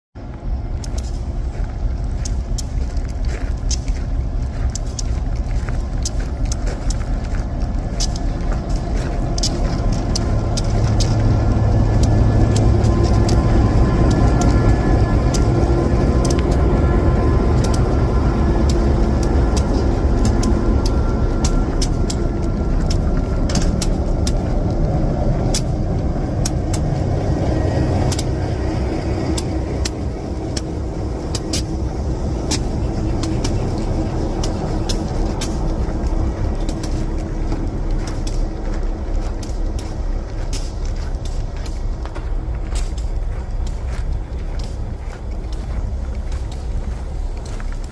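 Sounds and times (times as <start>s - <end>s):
diesel locomotive engine rumbling: 0.0s - 47.9s.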